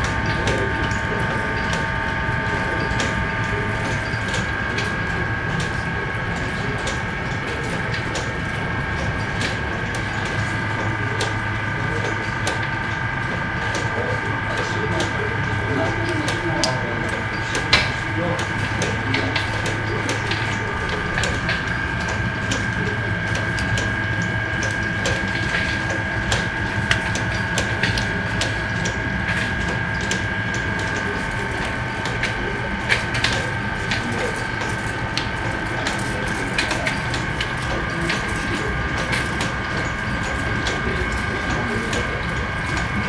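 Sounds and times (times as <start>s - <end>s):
machine motor hum with whine: 0.0s - 43.0s.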